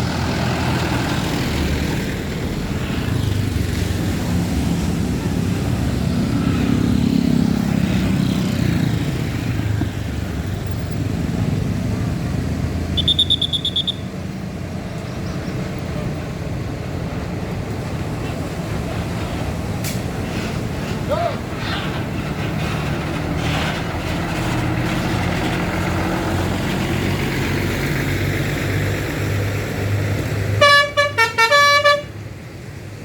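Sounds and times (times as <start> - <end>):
bus engines rumbling: 0.0 - 33.0.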